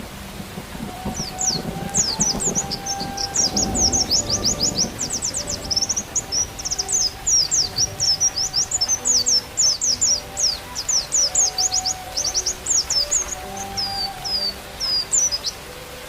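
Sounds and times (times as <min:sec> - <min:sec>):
faint held flute notes: 0:00.0 - 0:16.0
bird twittering: 0:00.8 - 0:16.0.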